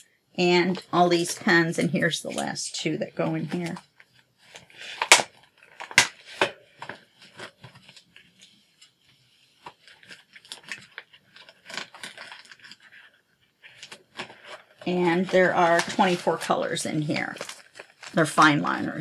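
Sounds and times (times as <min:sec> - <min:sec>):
packaging rustling: 0:03.3 - 0:19.0.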